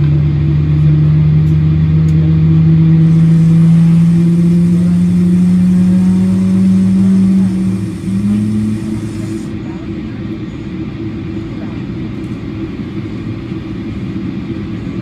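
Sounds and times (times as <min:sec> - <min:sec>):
loud engine drone: 0:00.0 - 0:15.0.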